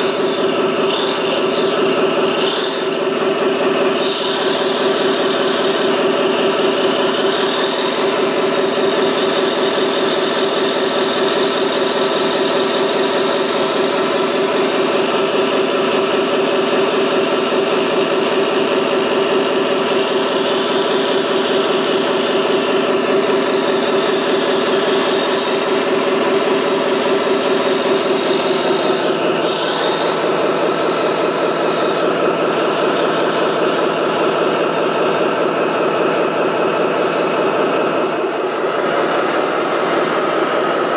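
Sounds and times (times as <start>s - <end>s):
machine engine-like drone: 0.0s - 40.9s.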